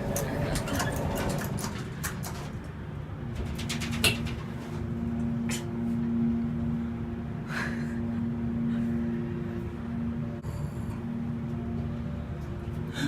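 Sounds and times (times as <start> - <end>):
low hum with two tones: 0.0 - 13.0.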